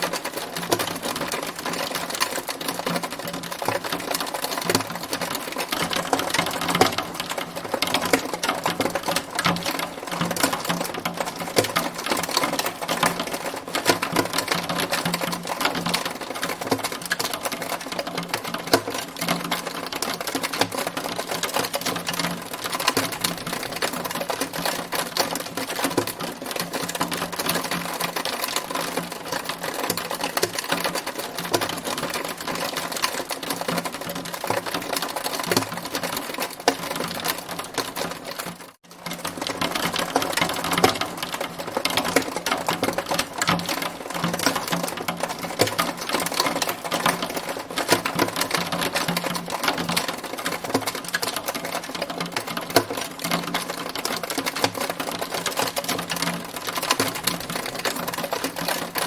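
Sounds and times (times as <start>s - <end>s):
hailstones striking hard surface: 0.0s - 59.0s.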